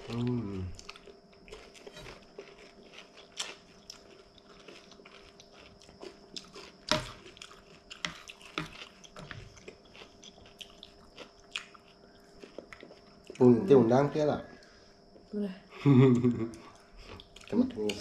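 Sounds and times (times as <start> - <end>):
chewing and crunching: 0.0 - 13.6, 16.5 - 18.0.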